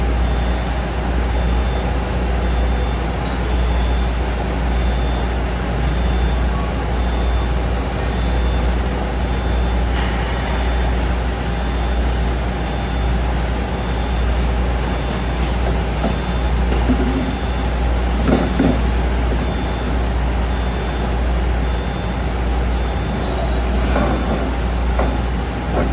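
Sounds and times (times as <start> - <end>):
low mechanical engine rumble: 0.0 - 25.9.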